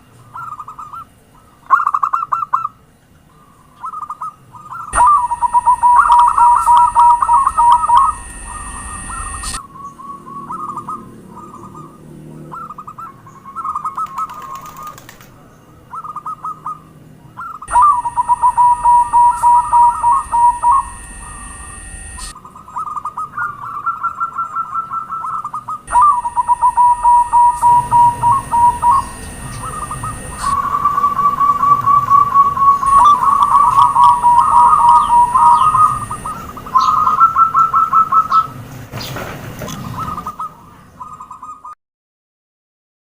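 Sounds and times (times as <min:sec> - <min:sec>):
doves cooing: 0:00.2 - 0:41.7.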